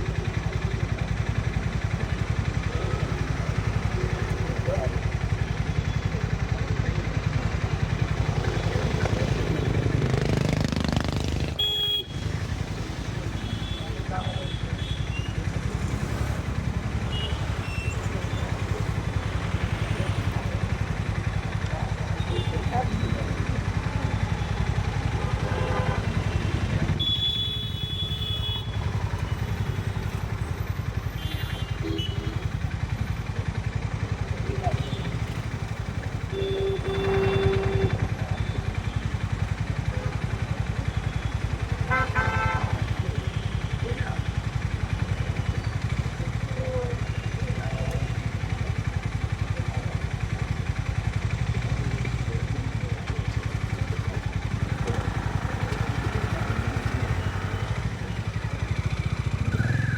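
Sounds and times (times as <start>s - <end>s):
motorcycle engine running: 0.0s - 59.9s
road noise: 0.0s - 59.9s.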